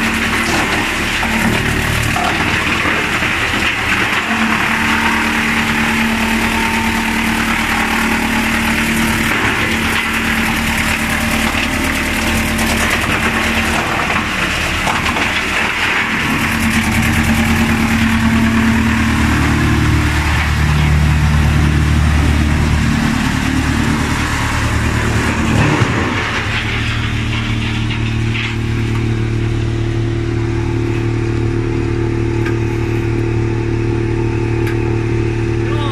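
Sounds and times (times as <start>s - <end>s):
wood chipper hum: 0.0s - 35.9s.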